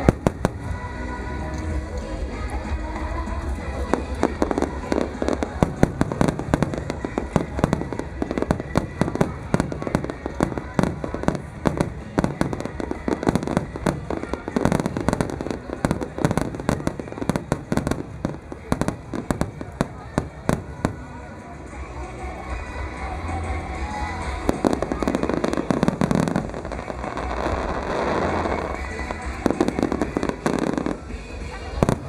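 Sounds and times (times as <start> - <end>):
fireworks bangs and crackles: 0.0 - 21.9, 23.7 - 32.0.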